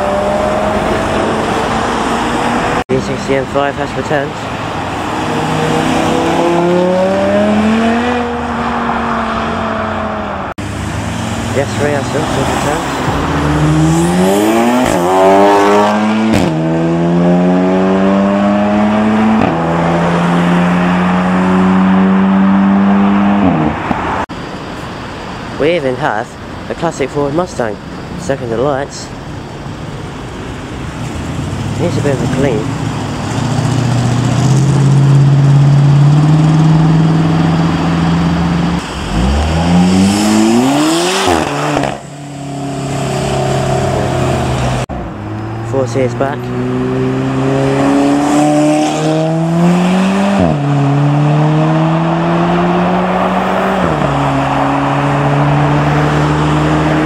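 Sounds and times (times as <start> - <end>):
car engine accelerating hard: 0.0 - 24.3, 30.8 - 57.0.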